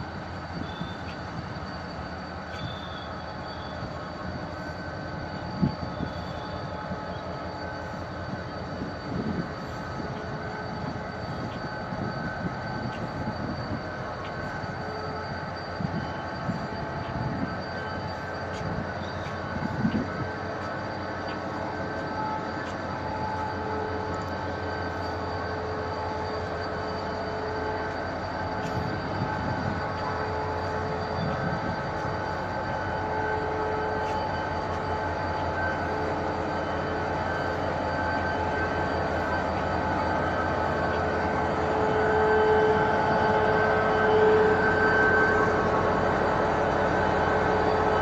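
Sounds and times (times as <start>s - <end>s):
locomotive whine: 0.0s - 48.0s
train rolling past: 0.0s - 48.0s.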